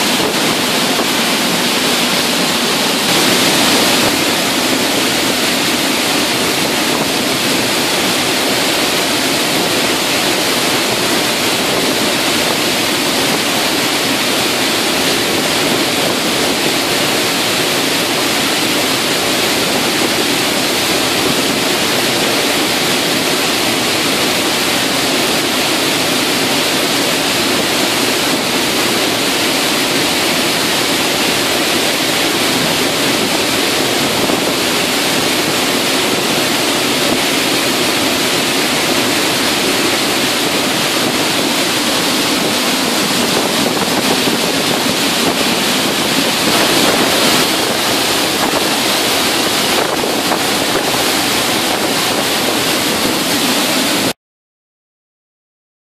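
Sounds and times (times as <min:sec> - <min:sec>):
waterfall rushing: 0:00.0 - 0:54.2.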